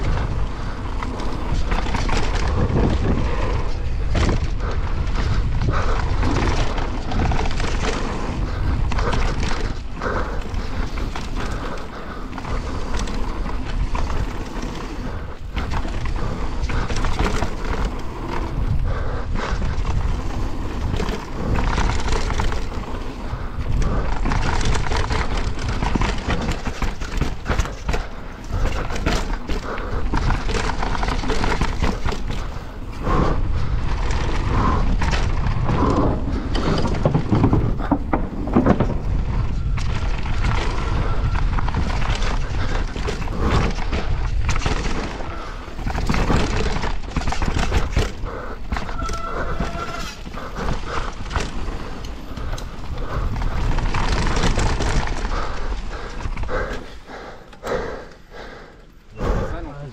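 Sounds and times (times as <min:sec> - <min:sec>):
bike rattling over bumps: 0:00.0 - 0:59.9
tyres rolling on dirt: 0:00.0 - 0:59.9
wind rumble on microphone: 0:00.0 - 0:59.9.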